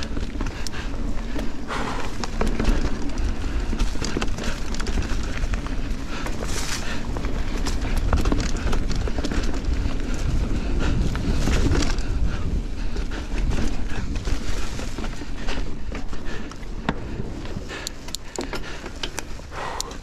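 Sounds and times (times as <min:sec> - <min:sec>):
sharp clicks and rattles: 0:00.0 - 0:12.2, 0:15.2 - 0:20.0
bike tyres rumbling on dirt: 0:00.0 - 0:20.0
wind buffeting microphone: 0:00.0 - 0:20.0.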